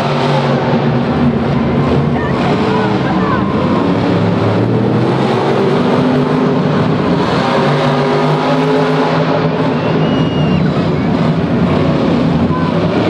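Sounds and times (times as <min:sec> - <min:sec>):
monster truck engines racing: 0:00.0 - 0:13.0.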